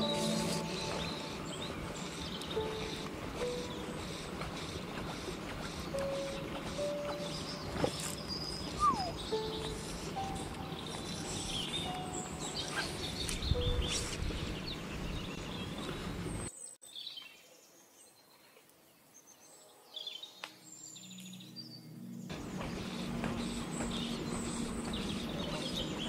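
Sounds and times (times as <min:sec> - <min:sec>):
small birds chirping: 0:00.0 - 0:26.0
steady outdoor background hiss: 0:00.0 - 0:26.0.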